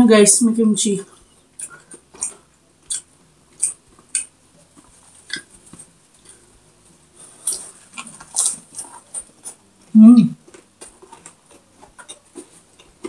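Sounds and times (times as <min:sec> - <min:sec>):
close eating smacks and clicks: 0:01.0 - 0:13.0.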